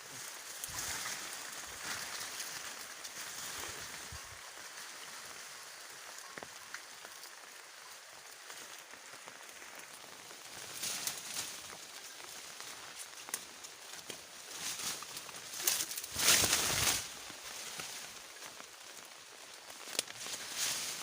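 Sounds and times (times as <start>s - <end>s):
foliage rustling: 0.0s - 21.0s.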